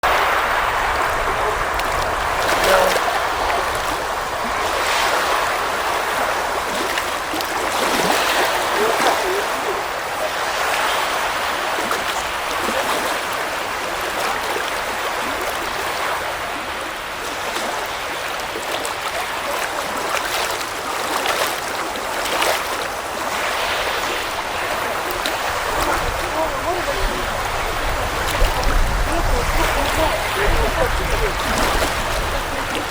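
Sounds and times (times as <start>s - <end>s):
water splashes: 0.0s - 32.9s
waves washing onto shore: 0.0s - 32.9s.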